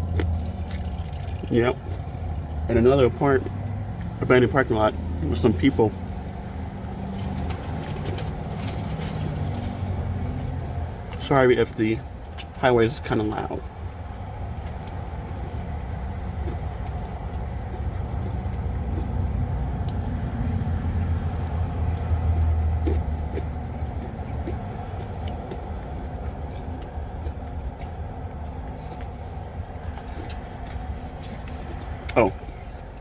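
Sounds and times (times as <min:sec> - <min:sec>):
highway traffic rumble: 0:00.0 - 0:33.0.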